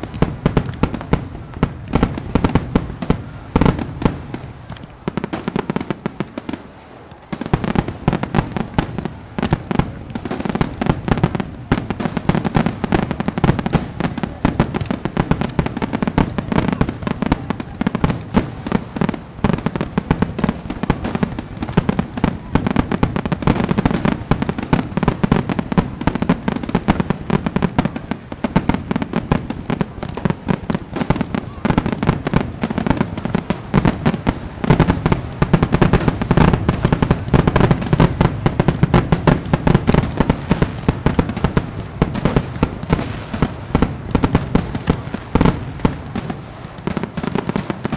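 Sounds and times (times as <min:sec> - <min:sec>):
fireworks crackling and banging: 0:00.0 - 0:47.9.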